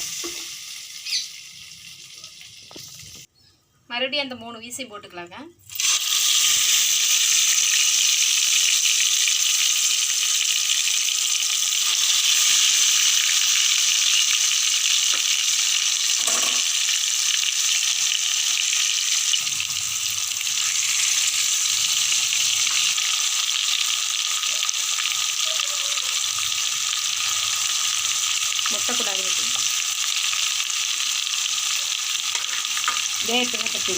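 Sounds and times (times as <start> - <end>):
chicken sizzling in hot oil: 0.0 - 3.3, 5.7 - 33.9.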